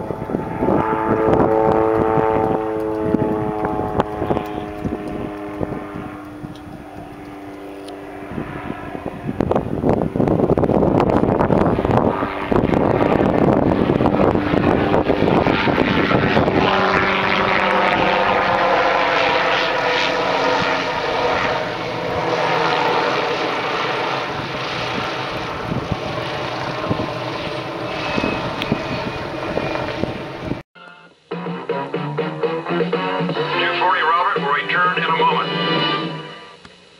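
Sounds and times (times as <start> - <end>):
helicopter rotor beat: 0.0 - 30.6
helicopter turbine whine: 0.0 - 30.7, 33.4 - 36.9.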